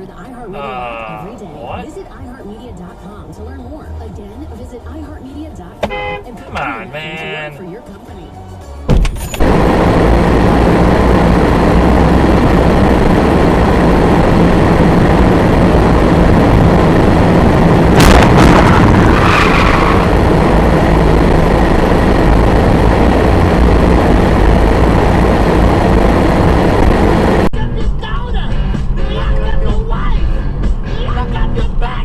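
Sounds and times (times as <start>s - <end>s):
car road and wind noise: 0.0s - 32.0s.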